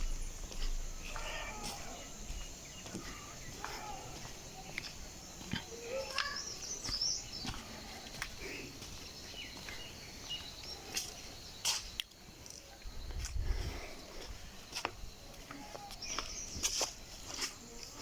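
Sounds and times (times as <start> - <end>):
birds chirping: 0.0 - 12.0, 13.6 - 18.0.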